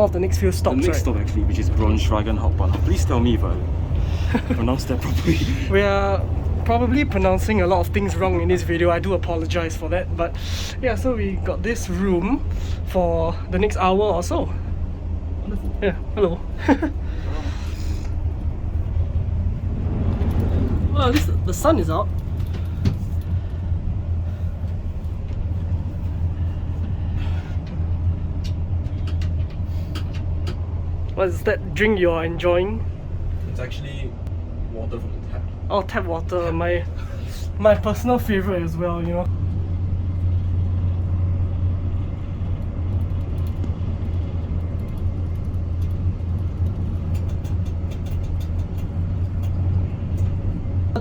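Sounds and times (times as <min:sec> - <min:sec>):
train rumble inside compartment: 0:00.0 - 0:51.0.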